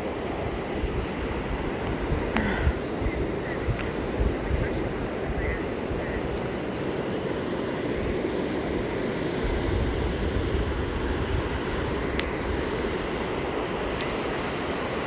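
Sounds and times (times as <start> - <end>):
ocean surf washing ashore: 0.0 - 15.0
wind rumbling on microphone: 0.0 - 15.0.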